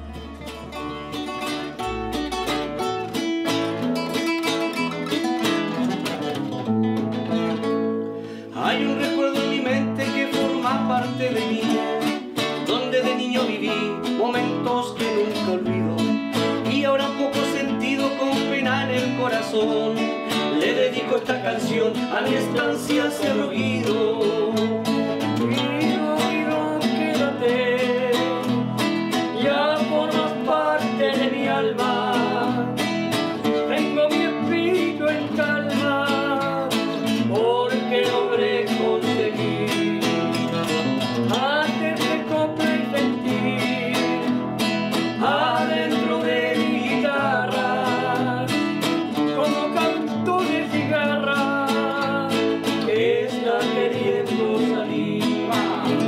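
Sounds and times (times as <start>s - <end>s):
acoustic guitar playing: 0.0s - 56.0s
person singing: 8.4s - 56.0s.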